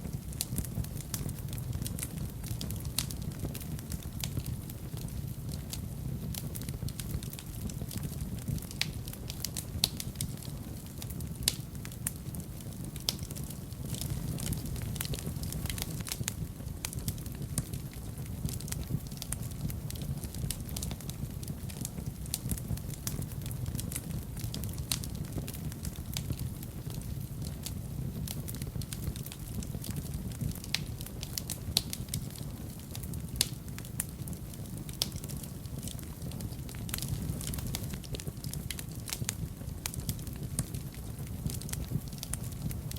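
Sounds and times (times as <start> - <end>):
low rumble of flames: 0.0 - 42.9
wood fire crackling: 0.0 - 42.9.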